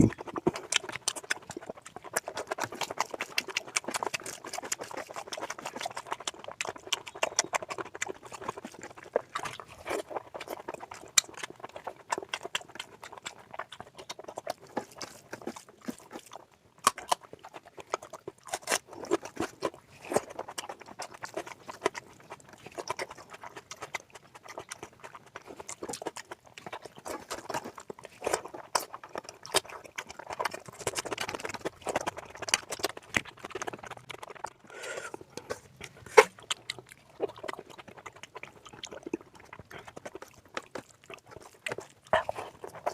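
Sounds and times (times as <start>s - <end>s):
wet chewing and mouth sounds: 0.0s - 42.9s.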